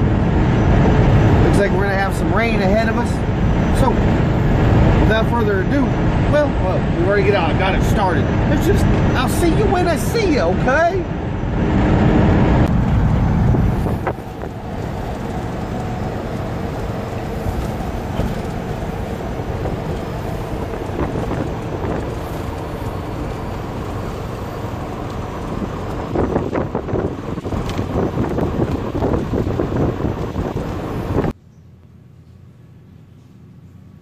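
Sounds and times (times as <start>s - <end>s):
wind buffeting microphone: 0.0s - 31.4s
engine and road drone: 0.0s - 34.0s.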